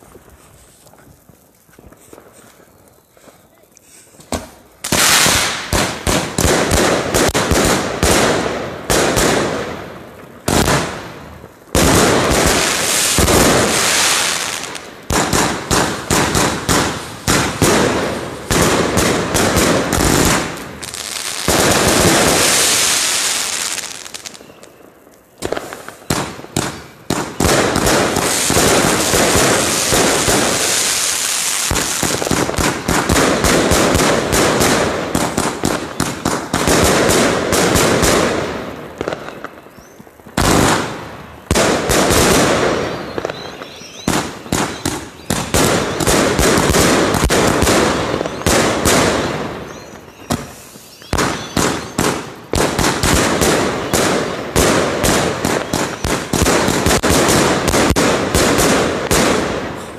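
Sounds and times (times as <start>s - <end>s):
firework cake firing: 0.0s - 59.9s.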